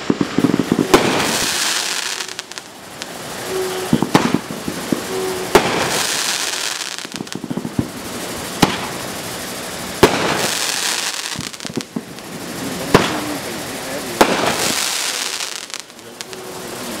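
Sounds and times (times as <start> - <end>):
crackling hiss of glitter stars: 0.0 - 17.0
firework sharp bangs: 0.0 - 17.0.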